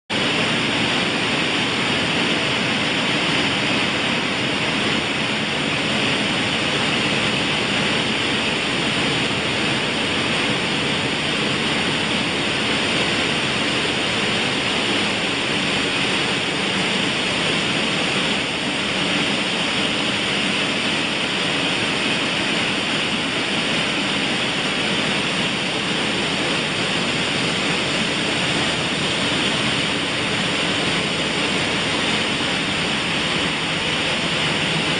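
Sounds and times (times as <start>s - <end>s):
machinery rushing noise: 0.1s - 34.9s.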